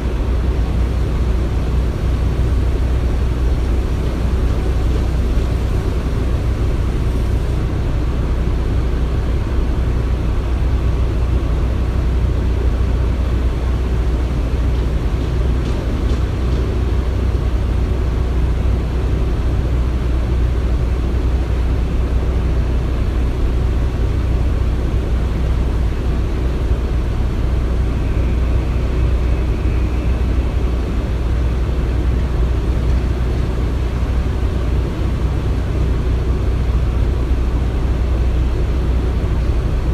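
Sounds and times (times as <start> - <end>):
machinery rumbling: 0.0 - 39.9
noisy wash: 0.0 - 39.9.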